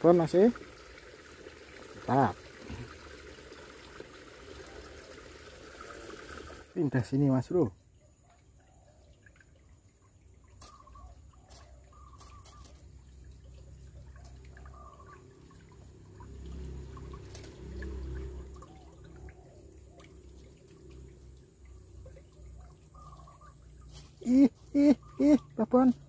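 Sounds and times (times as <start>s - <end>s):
stream trickling over stones: 0.0s - 26.0s.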